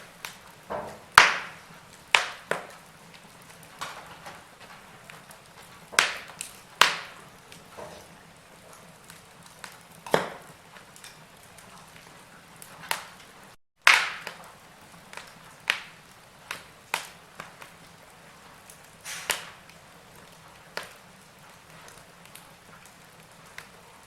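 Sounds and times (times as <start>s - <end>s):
logs crackling in fireplace: 0.0s - 24.0s.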